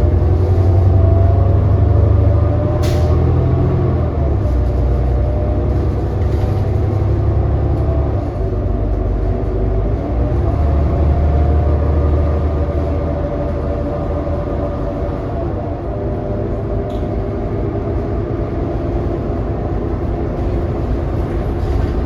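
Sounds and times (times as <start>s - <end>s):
bus engine drone with whine: 0.0s - 22.0s.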